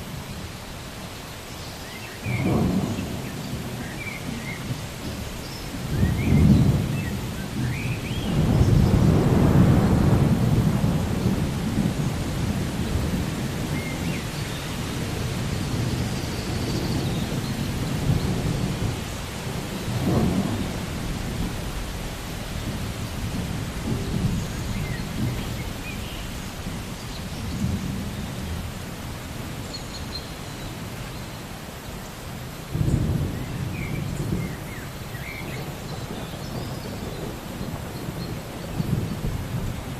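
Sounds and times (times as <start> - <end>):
steady rain: 0.0 - 39.9
thunder rumbling: 2.2 - 29.7, 32.6 - 39.9.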